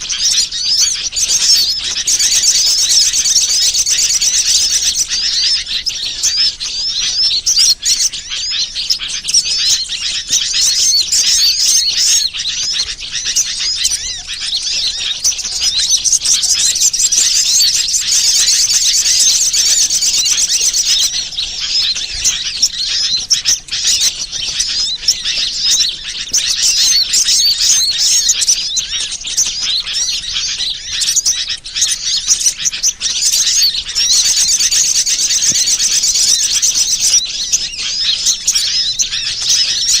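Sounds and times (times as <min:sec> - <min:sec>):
small birds twittering and chirping: 0:00.0 - 0:40.0.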